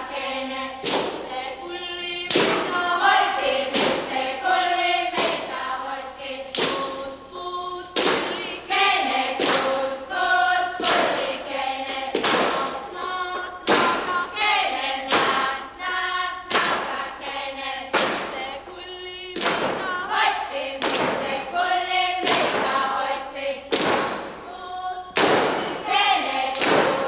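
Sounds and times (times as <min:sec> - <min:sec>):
group singing held notes: 0:00.0 - 0:27.0.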